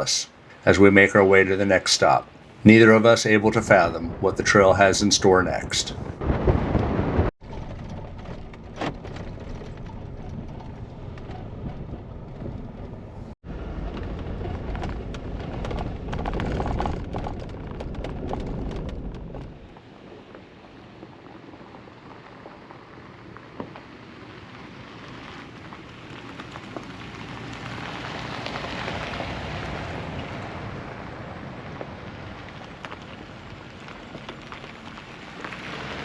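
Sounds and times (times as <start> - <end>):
gravel crackling: 0.0 - 36.0
vehicle engine and tyres rumbling: 0.0 - 36.0.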